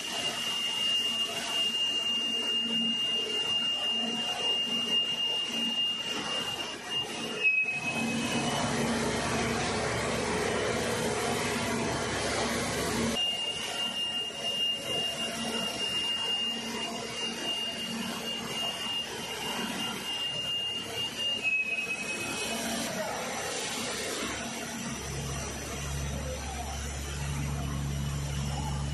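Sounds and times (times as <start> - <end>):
high-pitched machine whine: 0.0 - 28.9
industrial machinery running: 0.0 - 28.9.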